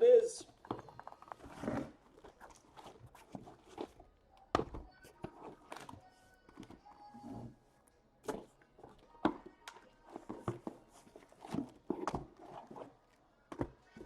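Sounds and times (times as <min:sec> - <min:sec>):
soft handling taps and rustles: 0:00.4 - 0:06.9, 0:08.2 - 0:14.0.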